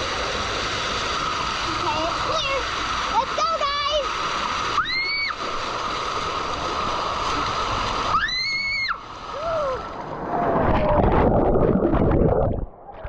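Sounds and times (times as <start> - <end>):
water rushing along slide: 0.0 - 12.9
water splashing: 0.0 - 13.0.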